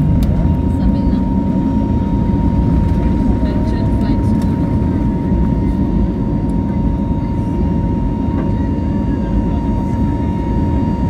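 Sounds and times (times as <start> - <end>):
jet engines rumbling and whining: 0.0 - 11.0.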